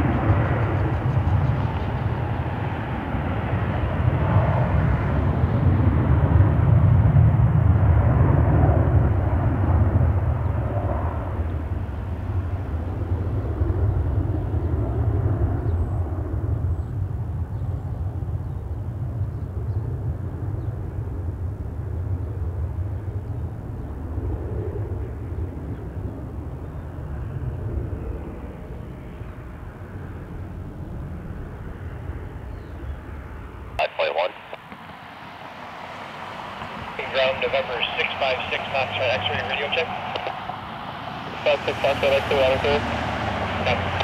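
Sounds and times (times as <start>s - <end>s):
jet engines roaring at takeoff: 0.0s - 44.0s.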